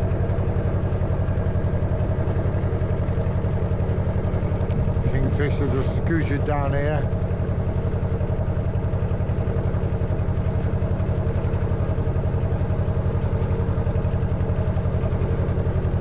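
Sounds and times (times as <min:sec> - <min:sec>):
boat engine throbbing: 0:00.0 - 0:16.0.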